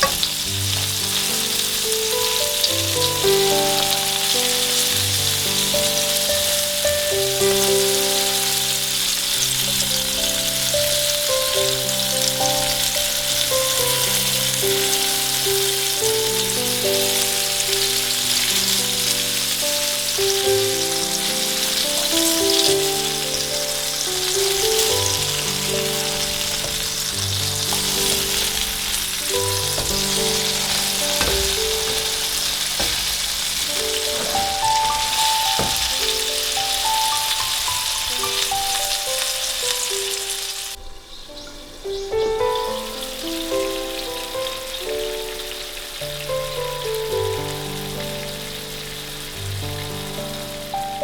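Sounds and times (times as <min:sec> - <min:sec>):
food sizzling in a pan: 0:00.0 - 0:51.0
soft background music: 0:00.0 - 0:51.0.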